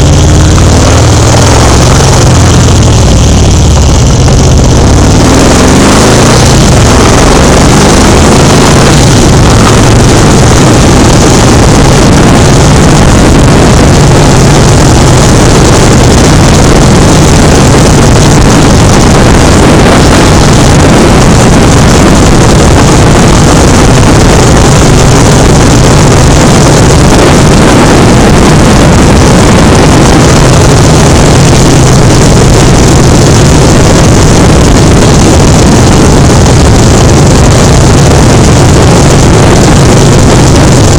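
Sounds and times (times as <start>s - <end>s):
engine humming: 0.0s - 40.9s
loud rushing noise: 0.0s - 40.9s.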